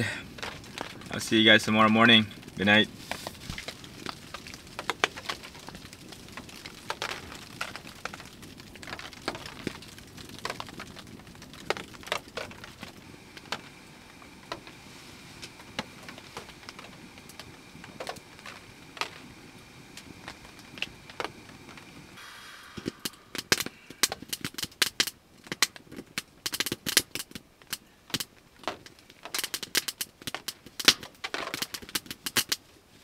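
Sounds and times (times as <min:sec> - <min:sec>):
rain pattering on tent fabric: 0:00.0 - 0:33.0
wood fire crackling: 0:00.0 - 0:33.0.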